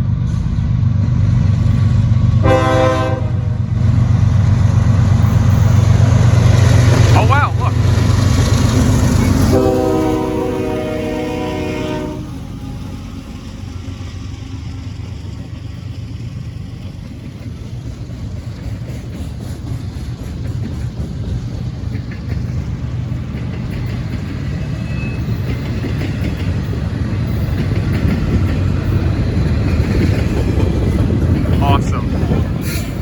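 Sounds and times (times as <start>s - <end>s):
diesel locomotive rumble: 0.0s - 33.0s.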